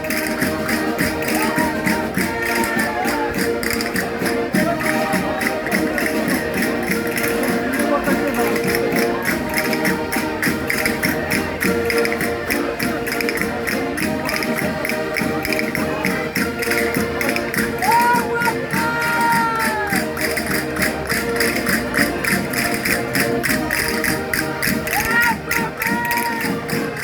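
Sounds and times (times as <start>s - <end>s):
concertinas playing folk dance tune: 0.0s - 27.0s.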